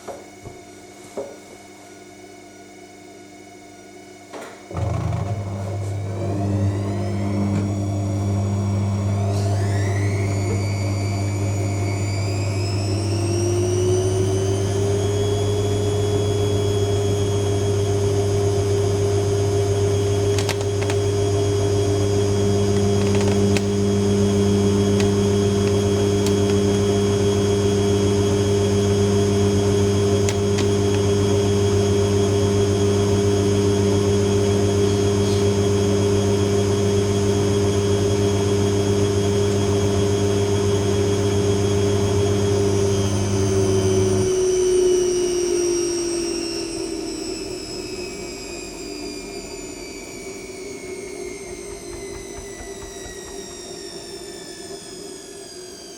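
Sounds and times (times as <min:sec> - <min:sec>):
motor whine: 0:04.7 - 0:55.9
washing machine spinning: 0:04.7 - 0:55.9.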